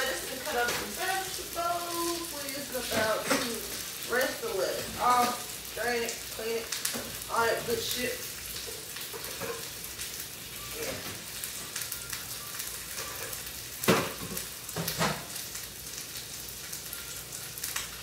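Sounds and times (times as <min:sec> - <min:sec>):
steak sizzling in skillet: 0:00.0 - 0:18.0.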